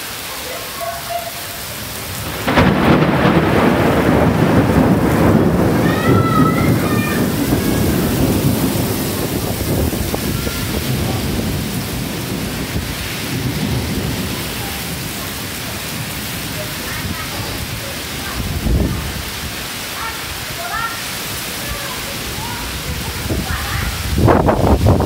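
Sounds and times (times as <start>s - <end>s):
heavy rain downpour: 0.0s - 25.0s
thunderclap rolling: 0.5s - 25.0s.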